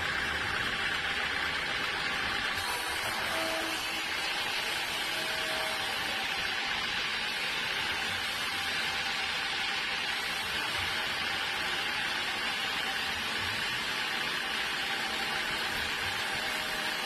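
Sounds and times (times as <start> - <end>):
saw cutting through wood: 0.0 - 17.0.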